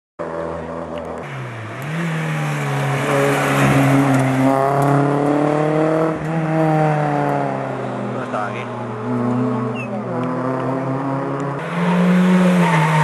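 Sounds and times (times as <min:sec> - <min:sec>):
rally car engine revving: 0:00.2 - 0:13.0.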